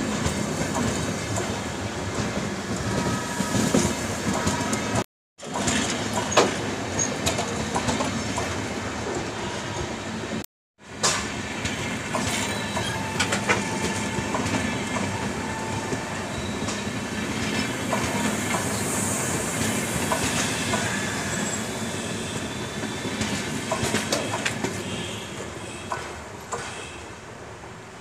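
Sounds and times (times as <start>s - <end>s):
train coaches rumbling past: 0.0s - 28.0s.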